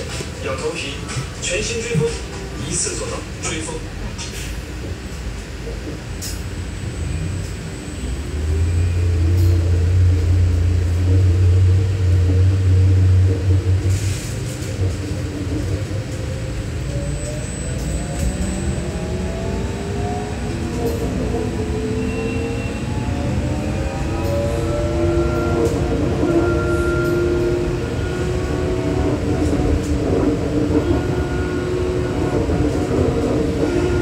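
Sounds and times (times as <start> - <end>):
loud low bus drone: 3.8 - 34.0.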